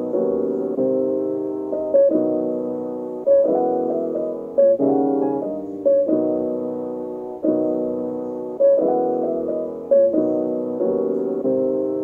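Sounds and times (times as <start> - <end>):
slow piano chords: 0.0 - 12.0.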